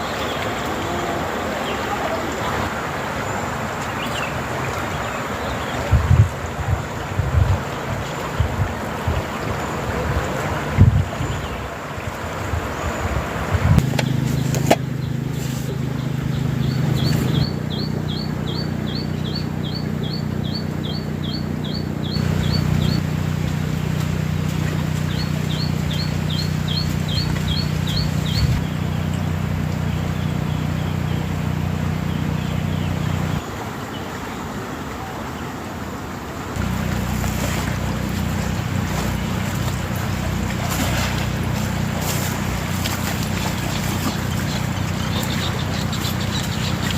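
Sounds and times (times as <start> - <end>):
engine humming: 0.0 - 34.8, 36.0 - 46.9.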